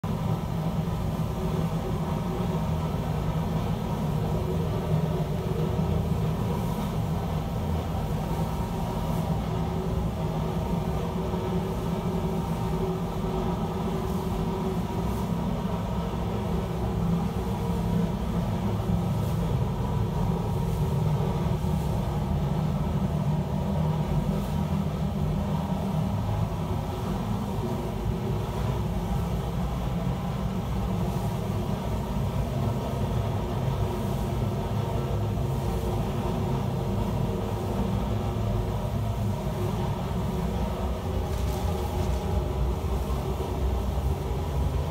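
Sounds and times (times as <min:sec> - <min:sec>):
constant hum: 0:00.0 - 0:44.9
low mechanical rumble: 0:00.0 - 0:44.9.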